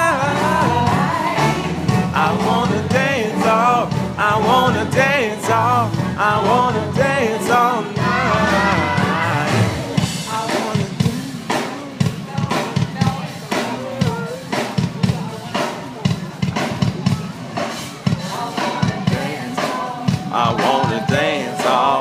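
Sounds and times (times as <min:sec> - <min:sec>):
backing singers: 0:00.0 - 0:14.8, 0:18.2 - 0:22.0
drums and bass: 0:00.0 - 0:22.0.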